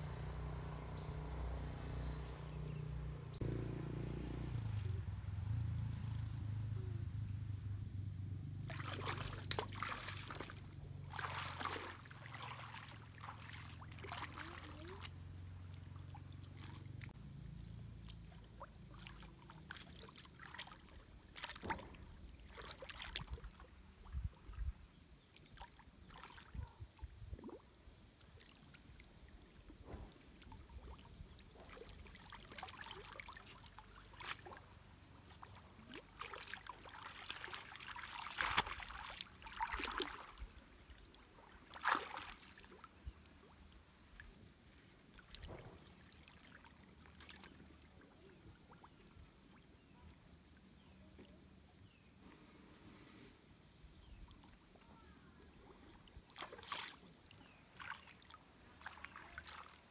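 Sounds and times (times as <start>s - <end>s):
water splashing and sloshing: 8.4s - 53.1s, 53.8s - 59.9s.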